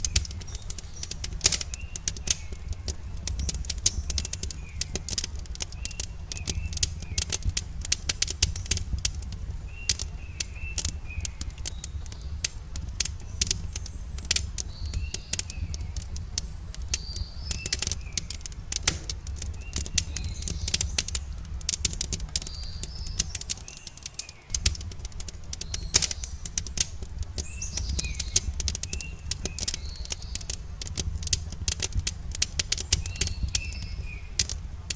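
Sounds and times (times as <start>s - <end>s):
steady low rumble: 0.0s - 23.8s, 24.4s - 34.9s
campfire crackling and popping: 0.0s - 34.9s
songbirds chirping: 0.0s - 34.9s.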